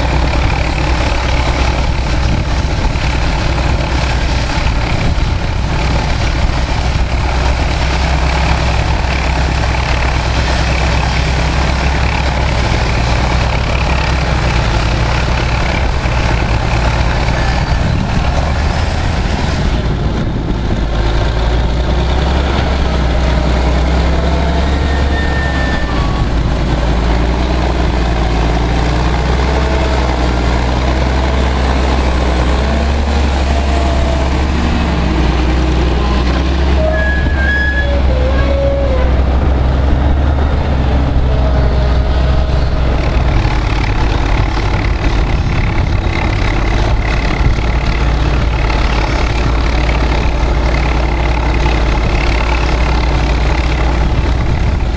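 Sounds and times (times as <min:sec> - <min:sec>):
diesel engines droning: 0:00.0 - 0:54.9.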